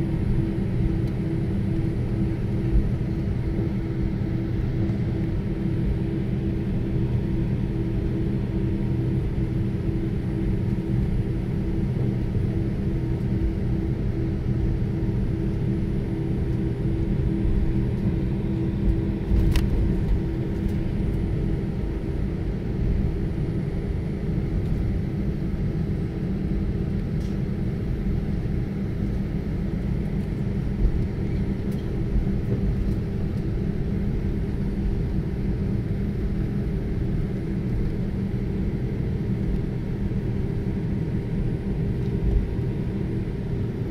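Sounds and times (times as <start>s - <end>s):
jet engine rumble: 0.0s - 43.9s.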